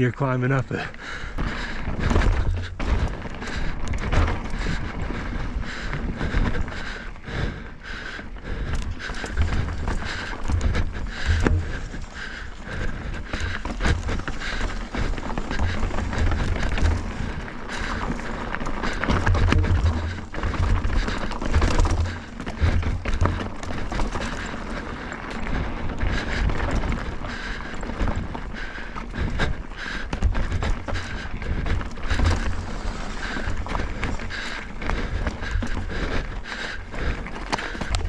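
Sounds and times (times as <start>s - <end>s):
bike tyres rolling over rock: 0.0s - 38.0s.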